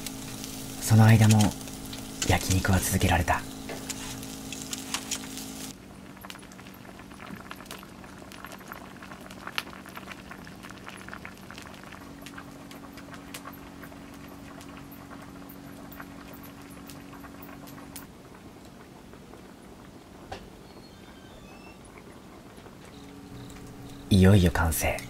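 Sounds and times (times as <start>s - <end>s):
campfire crackling and popping: 0.0s - 20.5s, 21.9s - 25.0s
pot bubbling: 0.0s - 25.0s.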